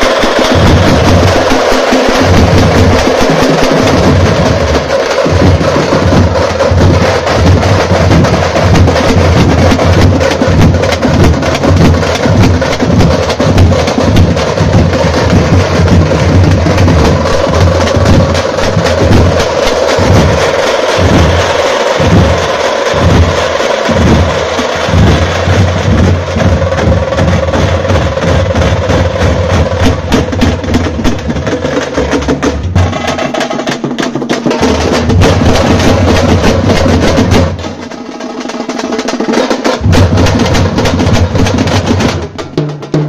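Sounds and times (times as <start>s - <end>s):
barrel drums beating: 0.0s - 43.0s
frame drums beaten with sticks: 0.0s - 43.0s.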